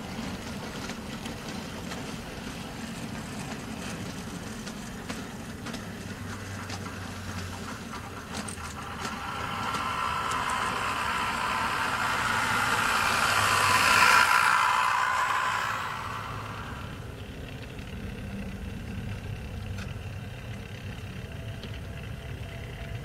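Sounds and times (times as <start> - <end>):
model train motor hum: 0.0 - 23.0
wheels clicking over rail joints: 0.0 - 23.0.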